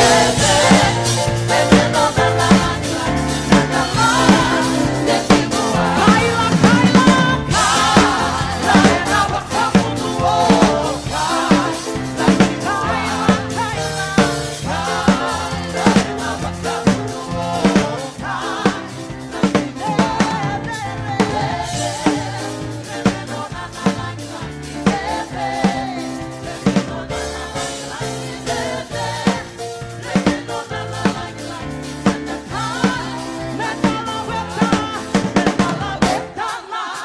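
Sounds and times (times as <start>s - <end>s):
drum kit beat: 0.0s - 37.0s
people singing: 0.0s - 37.0s
worship band playing: 0.0s - 37.0s.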